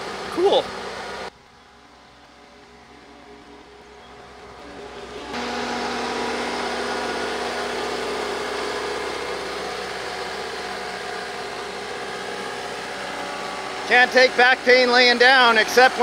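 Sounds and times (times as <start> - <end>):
diesel engine driving past: 0.0 - 16.0.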